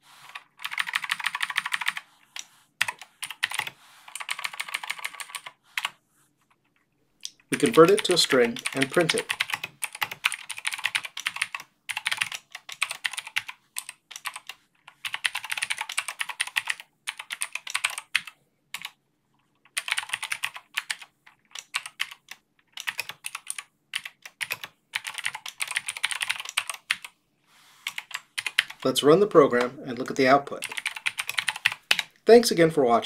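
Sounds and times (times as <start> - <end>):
typing on computer keyboard: 0.2 - 5.9, 6.6 - 19.0, 19.6 - 27.1, 27.8 - 28.8, 30.6 - 32.1.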